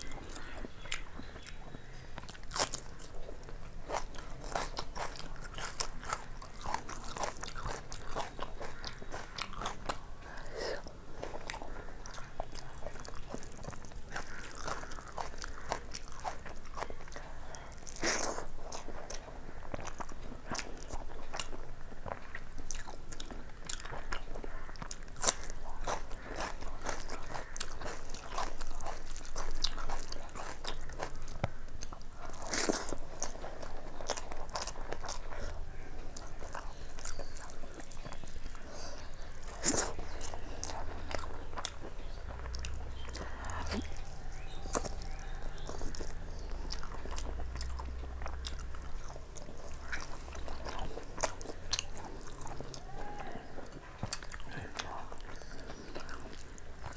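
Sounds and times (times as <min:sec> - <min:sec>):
food crunching: 0:00.0 - 0:56.9
person chewing food: 0:00.0 - 0:56.9.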